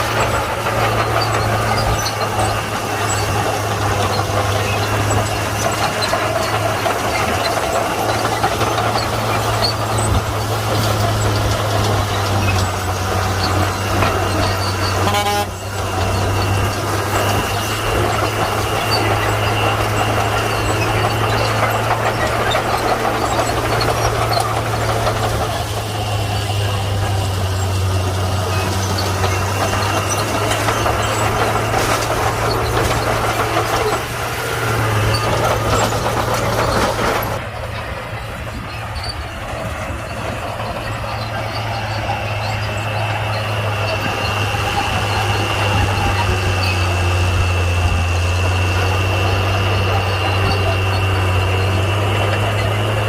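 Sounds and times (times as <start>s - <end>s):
bulldozer diesel engine droning: 0.0s - 53.0s.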